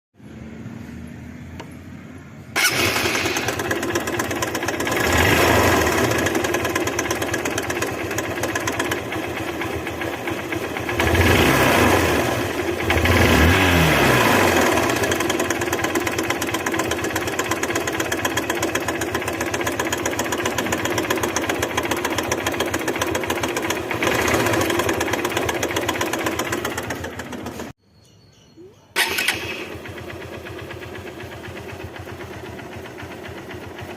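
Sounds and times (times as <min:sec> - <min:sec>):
motorcycle engine clattering: 0:02.6 - 0:27.7, 0:29.0 - 0:33.9.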